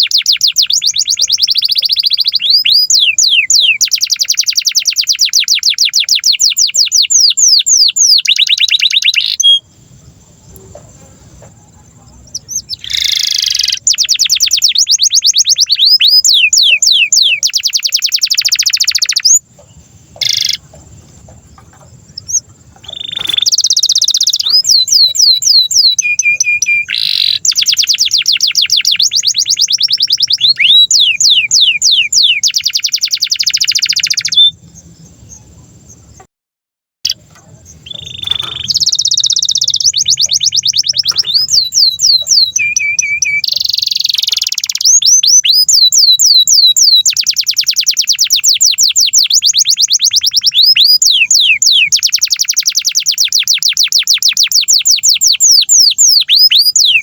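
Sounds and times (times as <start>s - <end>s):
canary singing: 0.0s - 36.3s, 37.0s - 57.0s.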